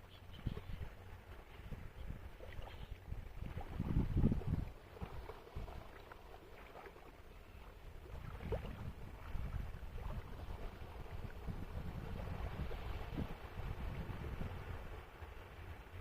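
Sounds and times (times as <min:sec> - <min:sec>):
sea water splashing and lapping: 0:00.0 - 0:16.0
wind rumbling on microphone: 0:00.0 - 0:16.0.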